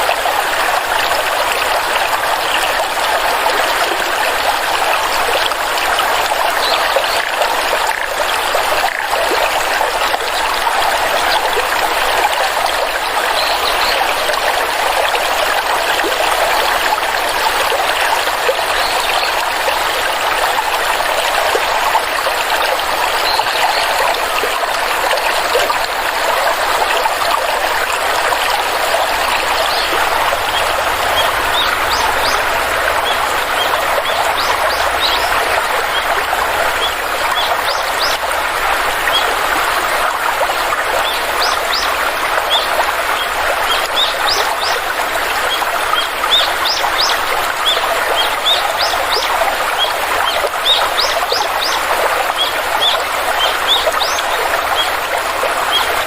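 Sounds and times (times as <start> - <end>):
stream water trickling: 0.0 - 56.0.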